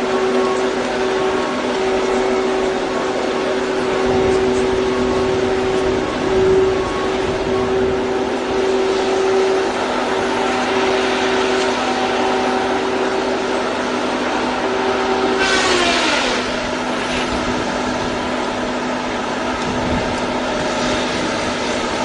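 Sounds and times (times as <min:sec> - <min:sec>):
whining tone dropping in pitch: 0:00.0 - 0:22.0
wood-cutting machinery droning: 0:00.0 - 0:22.0.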